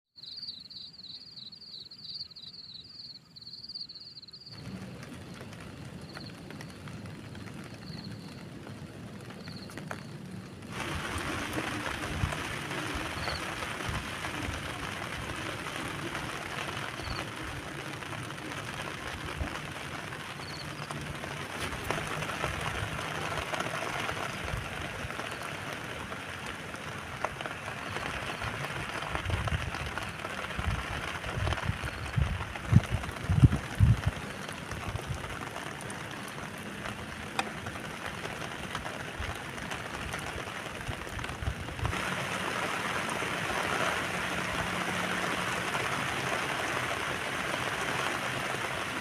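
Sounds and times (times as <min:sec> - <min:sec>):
steady rain falling: 0:04.1 - 0:49.0.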